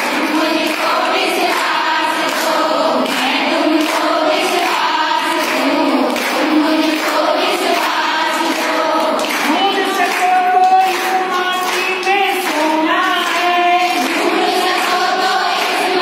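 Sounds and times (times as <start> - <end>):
women singing in unison: 0.0 - 10.2, 11.3 - 16.0.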